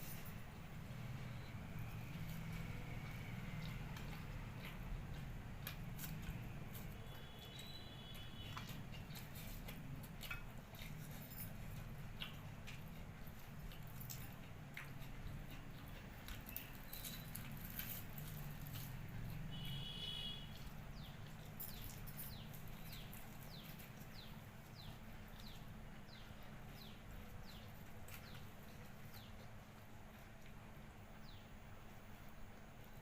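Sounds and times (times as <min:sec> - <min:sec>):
chewing clicks and smacks: 0:01.4 - 0:19.8, 0:20.4 - 0:33.0.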